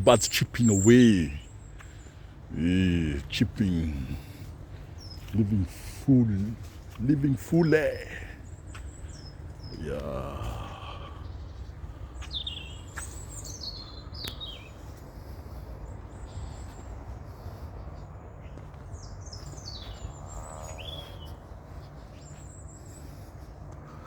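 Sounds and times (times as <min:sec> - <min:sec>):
songbirds chirping: 0:00.0 - 0:24.0
steady low rumble: 0:00.0 - 0:24.0.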